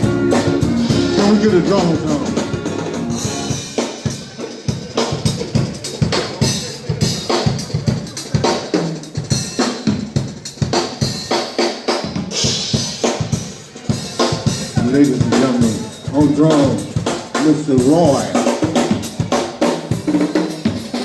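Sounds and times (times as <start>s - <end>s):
drum kit groove: 0.0s - 21.0s.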